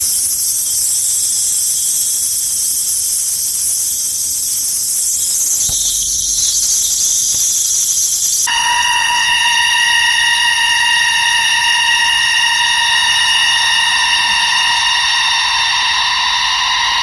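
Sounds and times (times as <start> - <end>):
cicada buzzing: 0.0 - 17.0
low tonal drone: 0.0 - 17.0.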